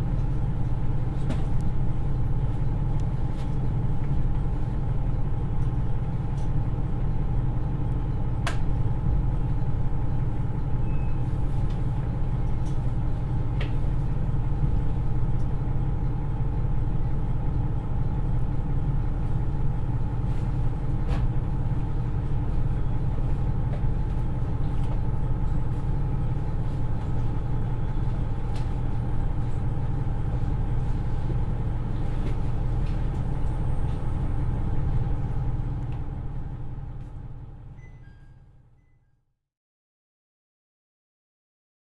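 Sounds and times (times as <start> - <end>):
diesel railcar engine idling: 0.0 - 38.9.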